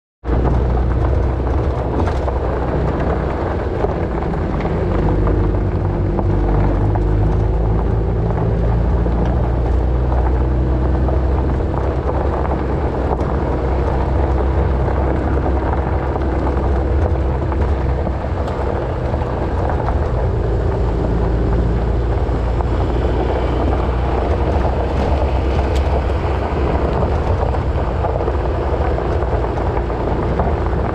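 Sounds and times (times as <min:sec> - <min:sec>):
vehicle engine drone: 0:00.2 - 0:30.9
wind buffeting microphone: 0:00.2 - 0:30.9
tyres on gravel: 0:00.3 - 0:30.9.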